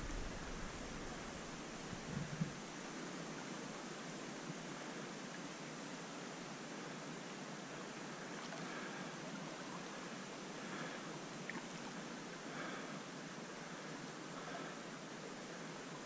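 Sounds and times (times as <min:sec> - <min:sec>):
faint flowing stream: 0:00.0 - 0:16.0.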